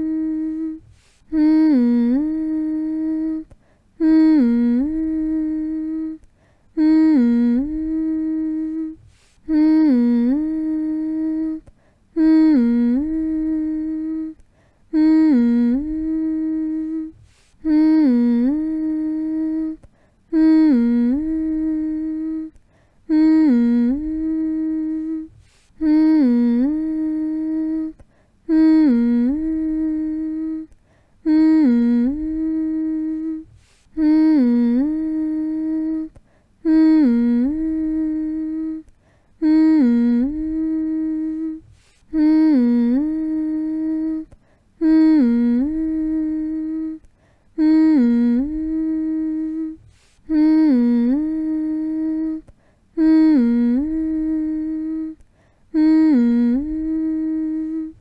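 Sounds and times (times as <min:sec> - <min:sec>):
person humming: 0:00.0 - 0:58.0.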